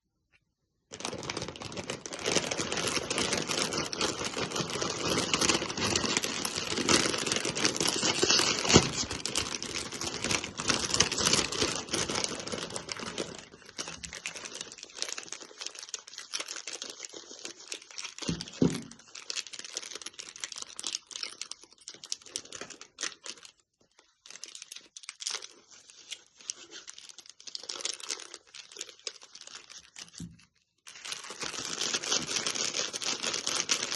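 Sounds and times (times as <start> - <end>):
wrapper crinkling and tearing: 0.9 - 33.9.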